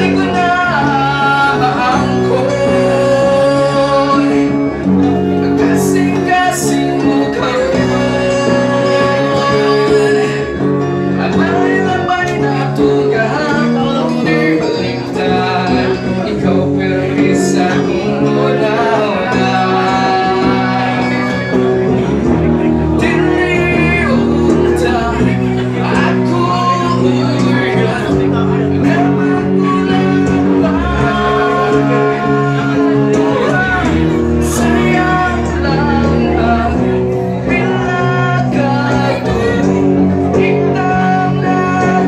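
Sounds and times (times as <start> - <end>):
electric guitars playing chords: 0.0 - 42.0
man singing a ballad: 0.0 - 42.0.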